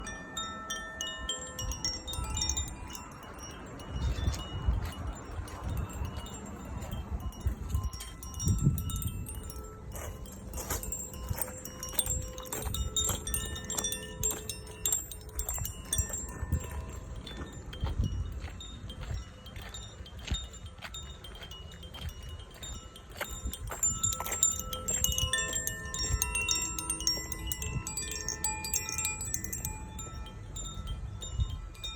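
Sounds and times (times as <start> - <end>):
wind chime ringing: 0.0 - 31.9.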